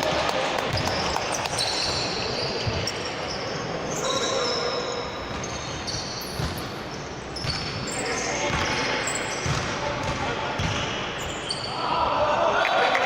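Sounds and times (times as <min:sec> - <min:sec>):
crowd and hall noise: 0:00.0 - 0:13.0
sneakers squeaking on floor: 0:00.7 - 0:11.8.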